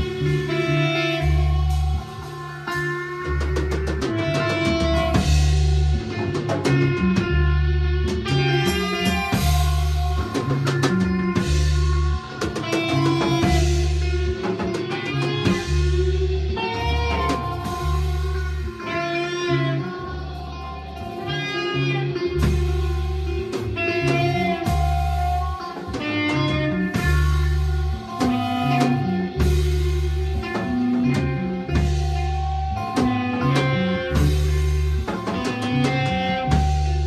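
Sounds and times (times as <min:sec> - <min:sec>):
deep bass notes: 0:00.0 - 0:37.0
drum kit: 0:00.0 - 0:37.0
electric guitar lines: 0:00.0 - 0:37.0.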